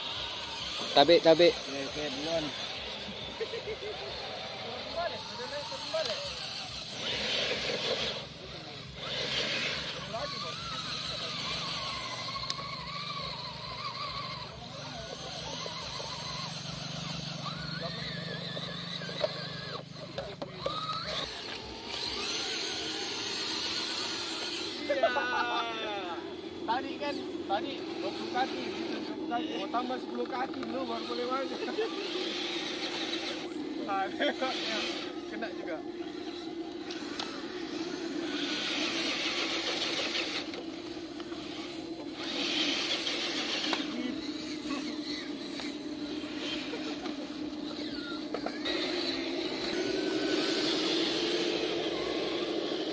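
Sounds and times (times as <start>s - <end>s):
rc car electric motors whining: 0.0s - 52.9s.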